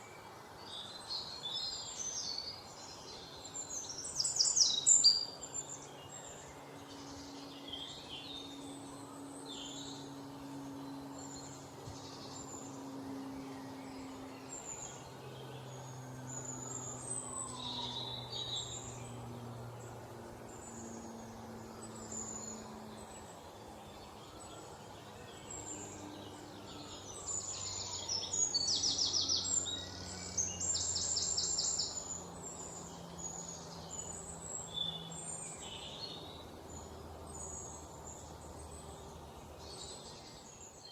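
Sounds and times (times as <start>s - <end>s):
faint low hum: 0.0s - 40.9s
small birds chirping: 0.0s - 40.9s.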